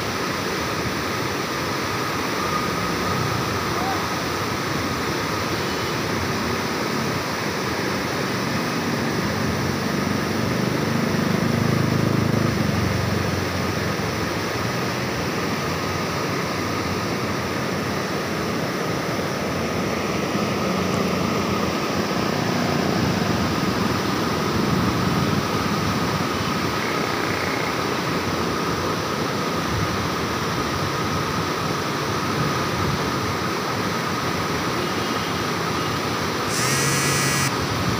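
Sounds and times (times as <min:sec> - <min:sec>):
river water rushing through gates: 0:00.0 - 0:36.6.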